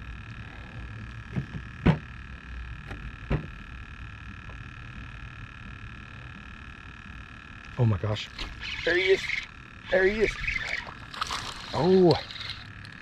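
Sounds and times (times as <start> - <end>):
electric motor hum and whine: 0.0 - 13.0.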